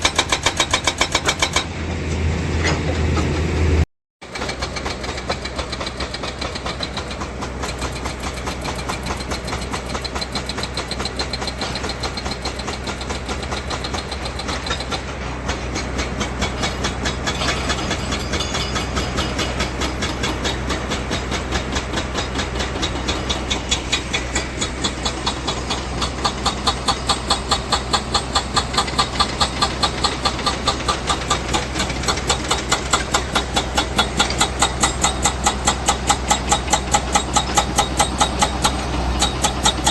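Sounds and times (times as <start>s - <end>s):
diesel engine with pulsing knock: 0.0s - 3.6s, 4.2s - 39.9s.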